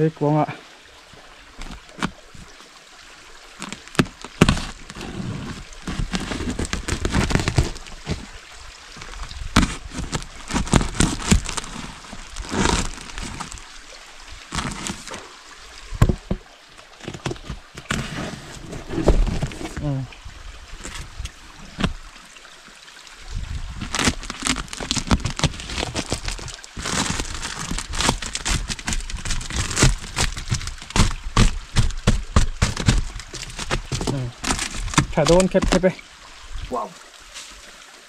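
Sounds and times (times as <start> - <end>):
water sloshing and splashing: 0.7 - 38.0.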